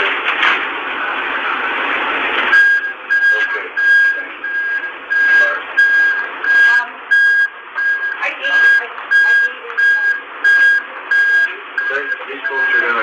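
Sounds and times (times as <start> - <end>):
vehicle warning beeper: 2.5 - 13.0.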